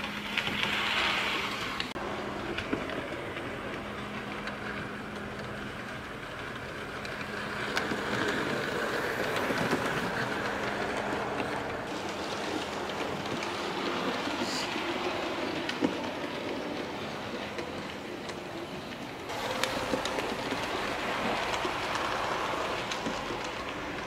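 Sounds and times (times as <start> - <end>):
model train motor hum: 0.0 - 24.0
wheel rattle and clicking: 0.0 - 24.0.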